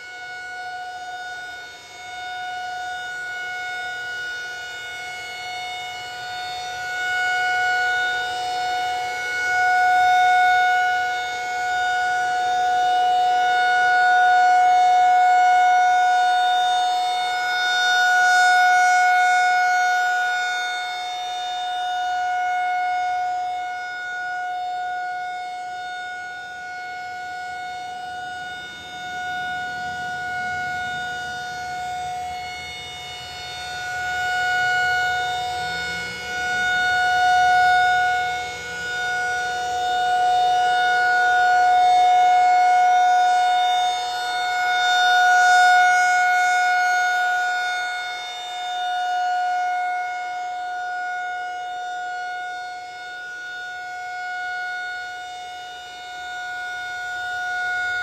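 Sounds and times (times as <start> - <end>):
rotating warning siren: 0.0 - 58.0.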